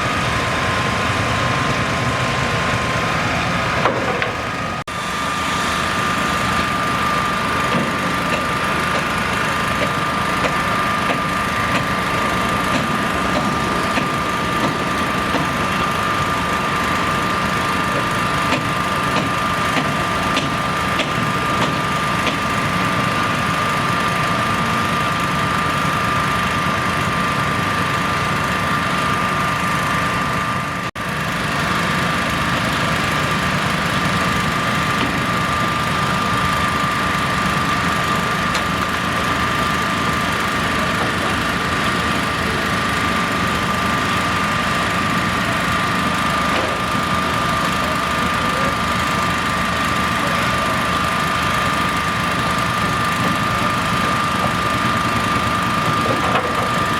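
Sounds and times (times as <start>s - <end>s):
construction machinery engine: 0.0s - 56.9s.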